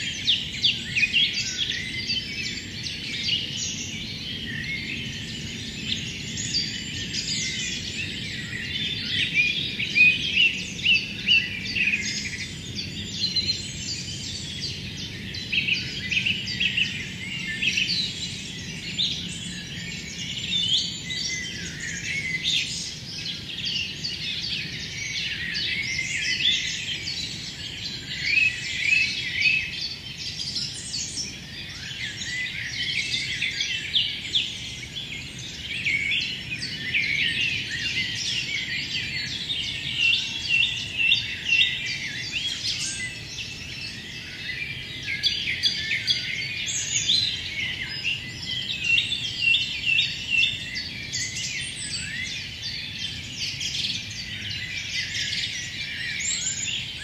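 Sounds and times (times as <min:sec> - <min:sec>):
dense birdsong: 0:00.0 - 0:57.0.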